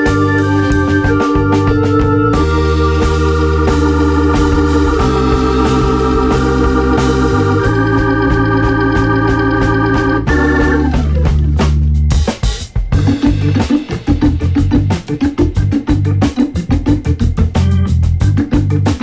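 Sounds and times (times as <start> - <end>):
bass line: 0.0 - 19.0
organ chords: 0.0 - 19.0.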